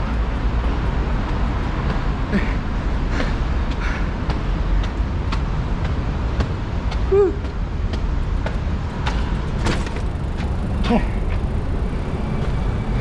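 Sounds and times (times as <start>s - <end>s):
road traffic rumble: 0.0s - 13.0s
wind: 0.0s - 13.0s.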